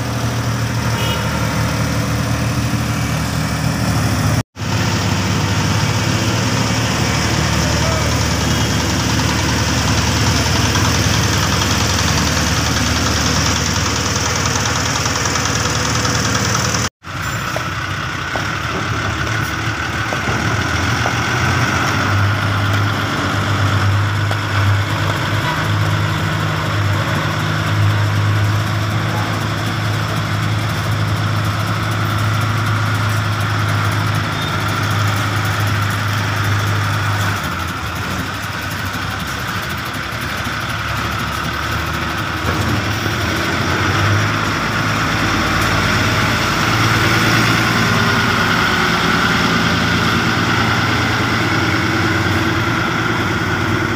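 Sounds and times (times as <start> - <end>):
road roller engine running: 0.0 - 53.9.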